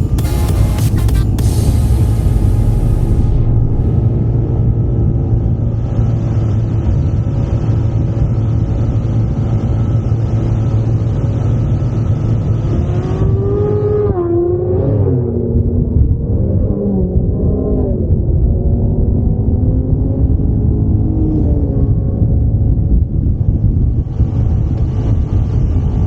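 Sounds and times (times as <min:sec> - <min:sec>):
wind rumble on microphone: 0:01.6 - 0:26.0.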